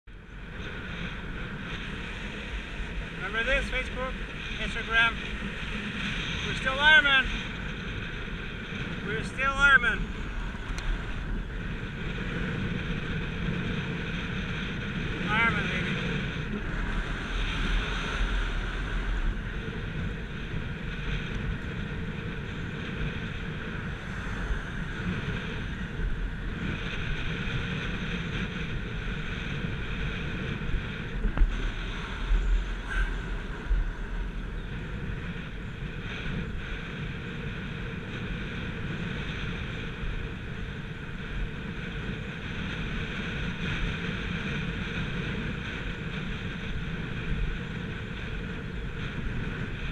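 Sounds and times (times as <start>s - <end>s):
low wind buffeting: 0.0s - 49.9s
wind rushing over microphone: 0.0s - 49.9s.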